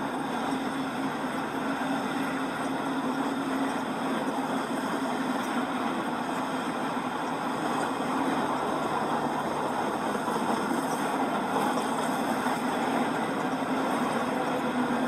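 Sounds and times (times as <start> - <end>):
model locomotive hum: 0.0 - 15.0.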